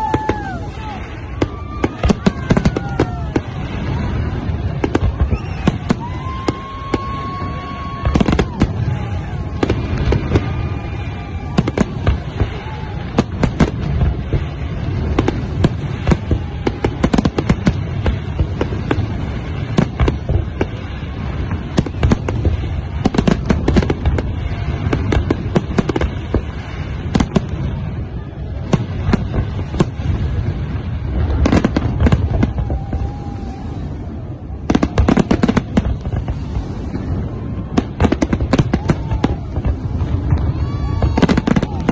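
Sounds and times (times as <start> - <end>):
fireworks bangs: 0.0 - 41.9
low rumble: 0.0 - 41.9.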